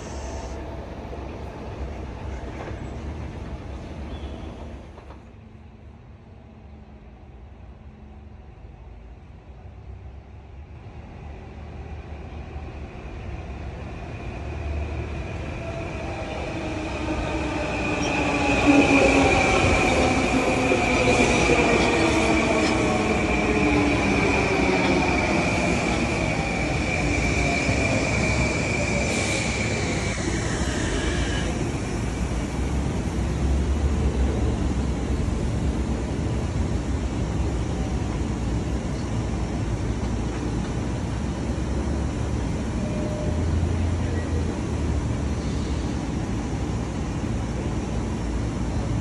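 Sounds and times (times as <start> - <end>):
train approaching: 0.0 - 49.0.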